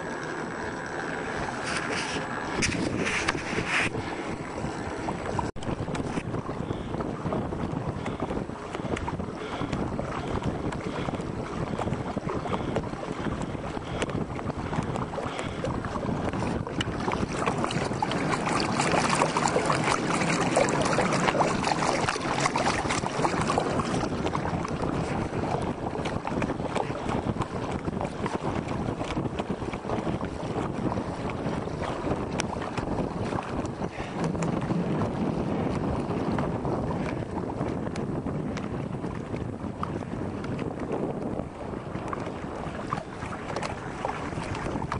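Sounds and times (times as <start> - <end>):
water rushing along a boat hull: 0.0 - 44.9
wind buffeting microphone: 0.0 - 44.9.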